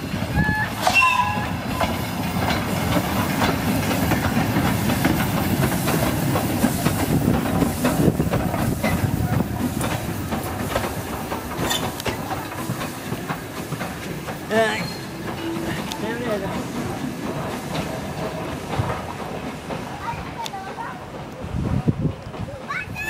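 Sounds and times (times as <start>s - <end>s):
steam hissing: 0.0s - 22.4s
steam locomotive passing: 0.0s - 23.0s
wheels clicking over rail joints: 0.3s - 23.0s.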